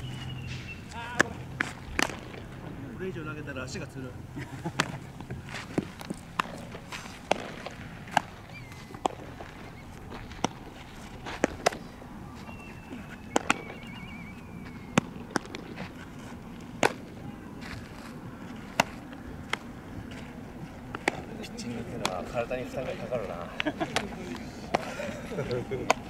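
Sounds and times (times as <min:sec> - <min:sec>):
baseballs popping into leather gloves: 0:00.9 - 0:02.6, 0:04.6 - 0:20.3, 0:20.9 - 0:22.4, 0:23.2 - 0:26.0.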